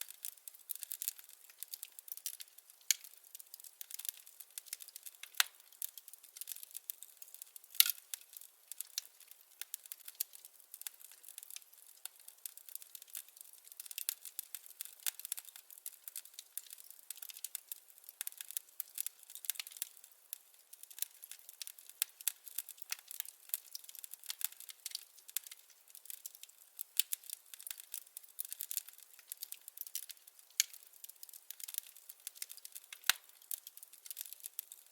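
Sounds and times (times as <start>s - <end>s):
firewood crackling and popping: 0.0s - 34.9s.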